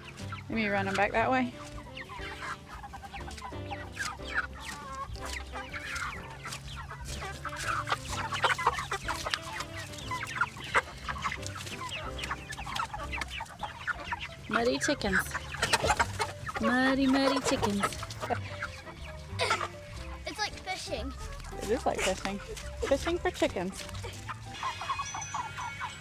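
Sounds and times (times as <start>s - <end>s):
background music: 0.0s - 26.0s
chickens clucking and squawking: 0.0s - 26.0s.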